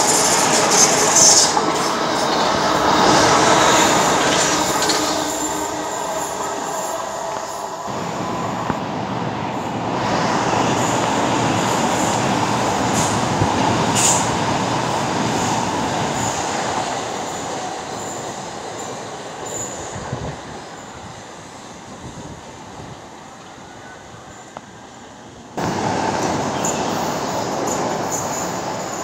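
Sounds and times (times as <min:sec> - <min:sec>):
train passing rumble: 0:00.0 - 0:29.0.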